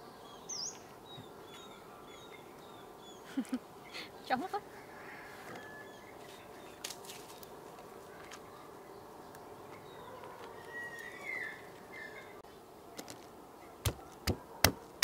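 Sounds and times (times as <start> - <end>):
birds chirping: 0.0 - 15.0
outdoor background hum: 0.0 - 15.0.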